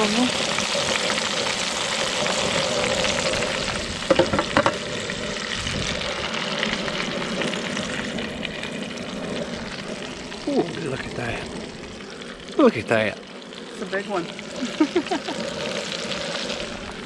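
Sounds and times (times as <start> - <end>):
fish deep-frying in oil: 0.0 - 17.0.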